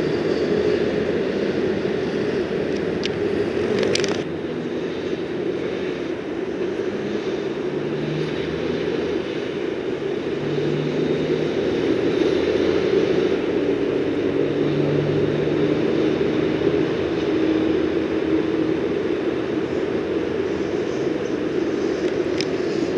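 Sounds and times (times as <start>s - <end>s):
road traffic drone: 0.0s - 22.9s.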